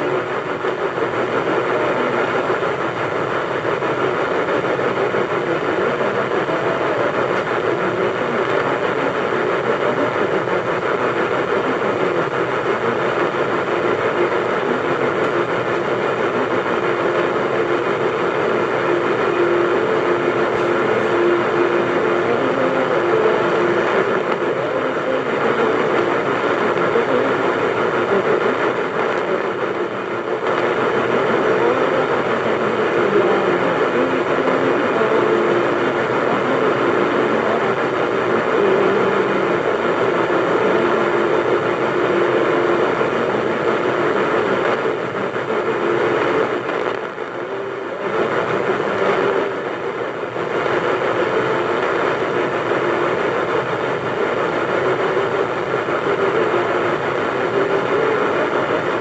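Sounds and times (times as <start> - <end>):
radio static: 0.0 - 59.0.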